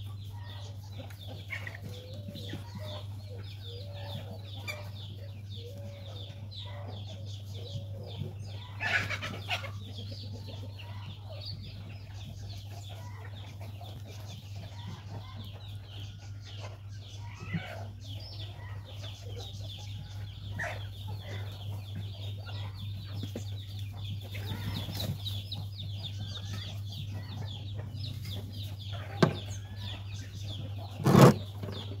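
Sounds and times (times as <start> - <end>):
bird calls: 0.0 - 32.0.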